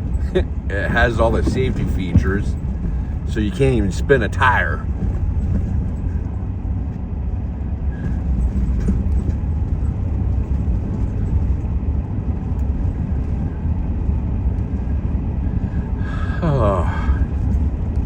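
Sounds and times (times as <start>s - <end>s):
pickup truck engine rumble: 0.0s - 18.0s
tyre noise on snowy road: 0.0s - 18.0s.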